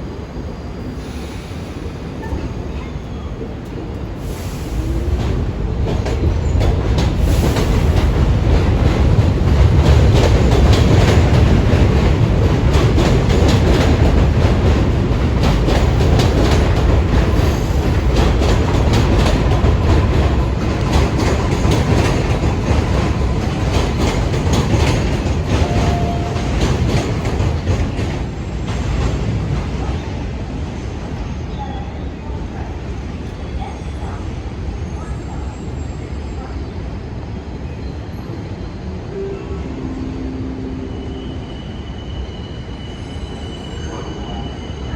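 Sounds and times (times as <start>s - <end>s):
subway train wheels clacking: 0.0s - 44.9s.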